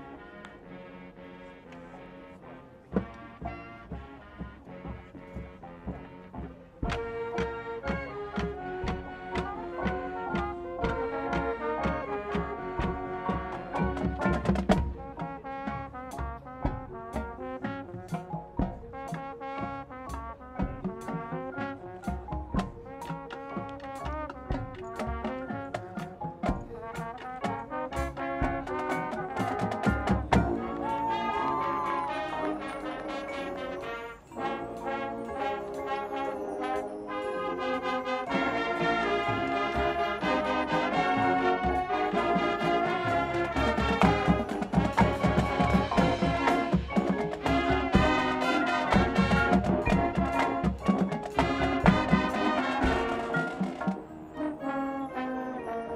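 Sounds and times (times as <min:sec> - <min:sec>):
marching band brass chords: 0:00.0 - 0:55.9.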